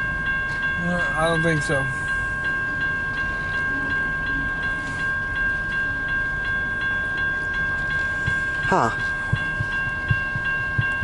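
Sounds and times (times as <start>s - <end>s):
crossing bell ringing: 0.0s - 11.0s.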